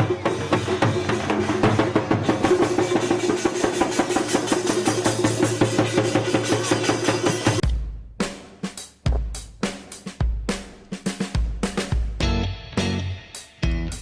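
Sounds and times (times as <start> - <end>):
music with fast percussive beat: 0.0 - 14.0.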